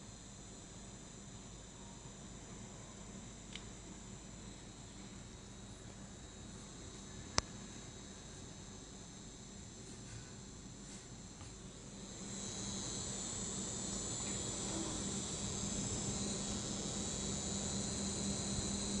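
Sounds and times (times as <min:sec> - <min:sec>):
graphics card high-pitched whine: 0:01.6 - 0:19.0.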